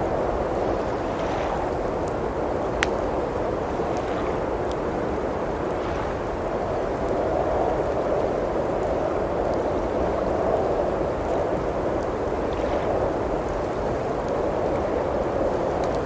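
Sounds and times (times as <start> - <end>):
blizzard wind rushing: 0.0 - 16.0
wood fire crackling: 0.0 - 16.0.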